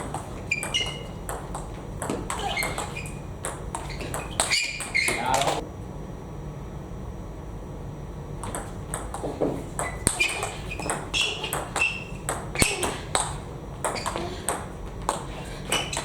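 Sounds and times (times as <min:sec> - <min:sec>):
table tennis ball clicking: 0:00.0 - 0:05.6, 0:08.4 - 0:16.0.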